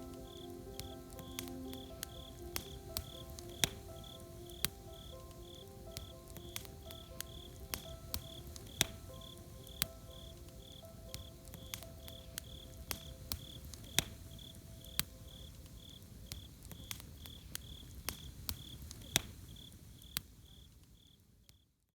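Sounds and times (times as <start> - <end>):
cricket chirping: 0.0 - 18.0
campfire crackling and popping: 0.0 - 21.6.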